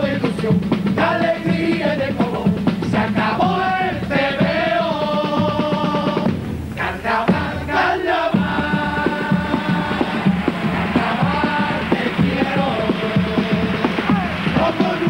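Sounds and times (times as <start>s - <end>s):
fast rhythmic accompaniment: 0.0s - 15.0s
group of voices singing: 0.0s - 15.0s.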